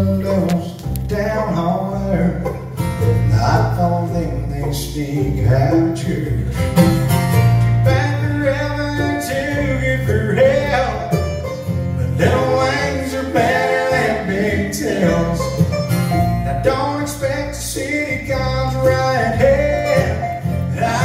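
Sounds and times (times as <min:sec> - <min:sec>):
acoustic guitar: 0:00.0 - 0:21.0
banjo: 0:00.0 - 0:21.0
fiddle: 0:00.0 - 0:21.0
mandolin: 0:00.0 - 0:21.0
upright bass: 0:00.0 - 0:21.0.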